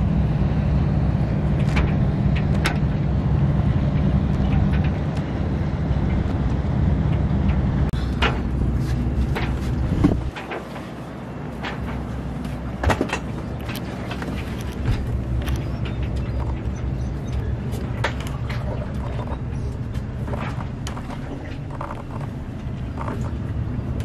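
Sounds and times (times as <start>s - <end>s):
low motor drone: 0.0s - 24.0s.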